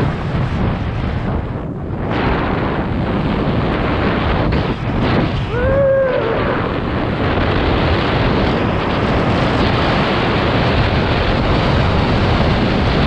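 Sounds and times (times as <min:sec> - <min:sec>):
wind on camera microphone: 0:00.0 - 0:13.0.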